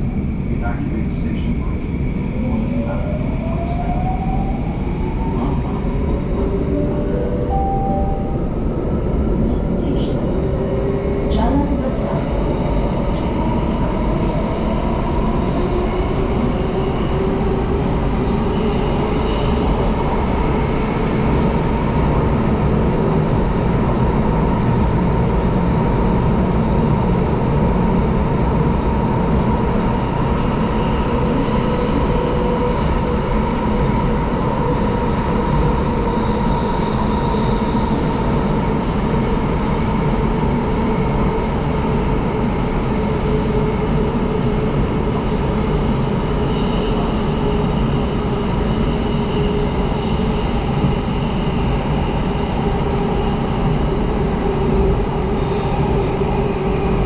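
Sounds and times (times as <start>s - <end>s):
faint train whine: 0.0s - 57.0s
train wheels rumbling on rail: 8.4s - 57.0s.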